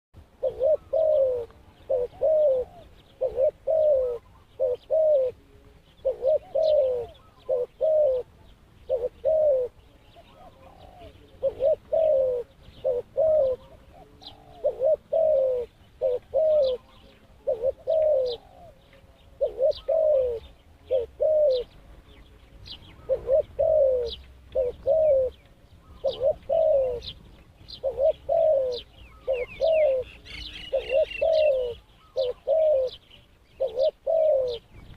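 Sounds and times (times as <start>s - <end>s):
dove cooing: 0.2s - 34.9s
small birds chirping: 0.2s - 34.9s.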